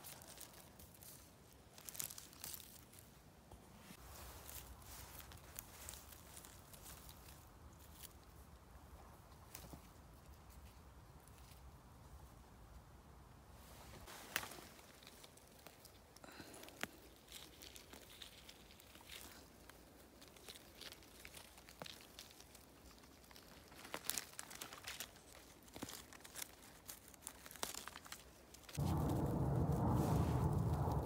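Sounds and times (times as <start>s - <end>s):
rustling and crackling of leaves: 0.0s - 12.9s, 13.5s - 31.0s.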